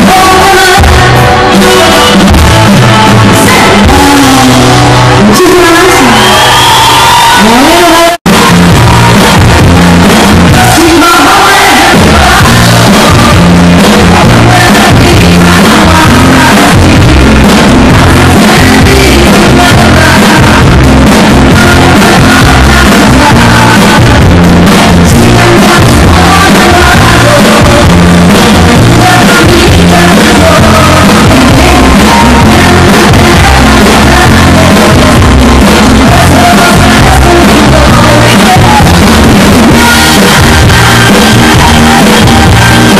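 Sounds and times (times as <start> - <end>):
live band music: 0.0 - 42.9.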